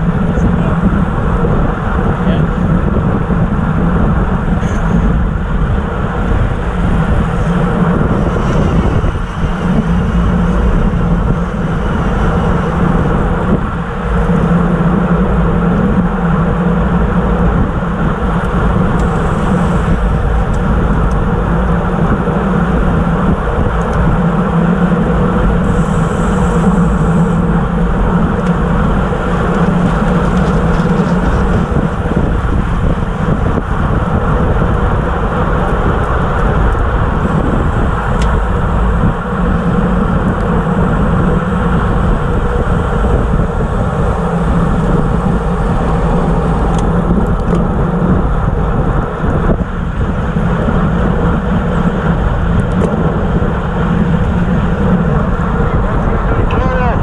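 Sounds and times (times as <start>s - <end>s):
road noise: 0.0s - 57.0s
wind noise: 0.0s - 57.0s.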